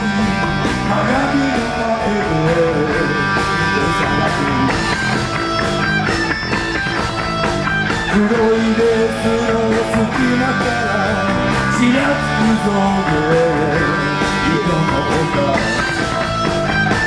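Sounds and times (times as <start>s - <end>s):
gliding lead guitar melody: 0.0s - 17.0s
live rock band playing: 0.0s - 17.0s.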